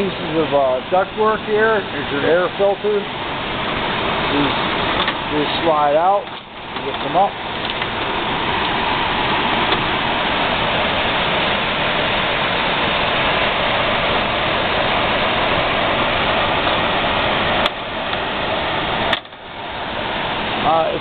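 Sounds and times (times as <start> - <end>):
air conditioner fan blowing: 0.0 - 21.0.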